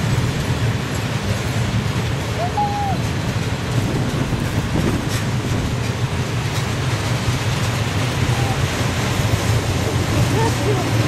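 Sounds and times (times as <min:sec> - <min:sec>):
train wheels rolling on track: 0:00.0 - 0:11.0.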